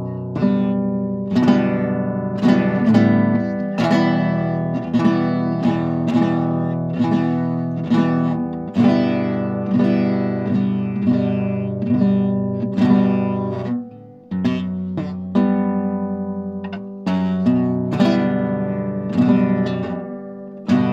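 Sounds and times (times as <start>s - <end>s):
acoustic guitar chords: 0.0s - 20.9s.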